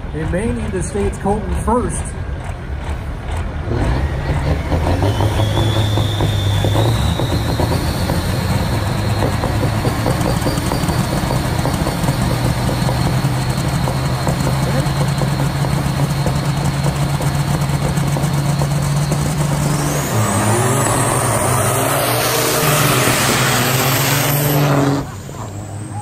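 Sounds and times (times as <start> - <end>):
diesel truck engines revving: 0.0 - 26.0
high whine climbing in pitch: 4.0 - 26.0.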